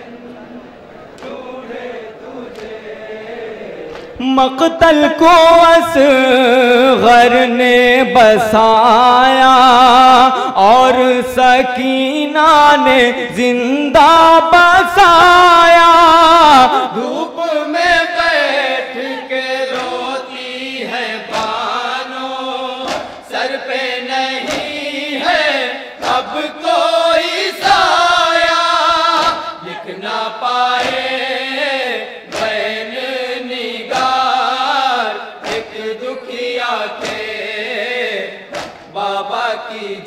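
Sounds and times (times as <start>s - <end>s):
men chanting a lament: 0.0s - 40.0s.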